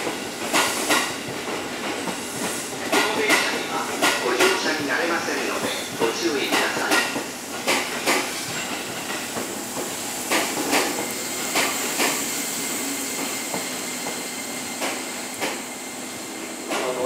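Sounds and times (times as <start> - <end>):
train hiss and hum: 0.0 - 17.0.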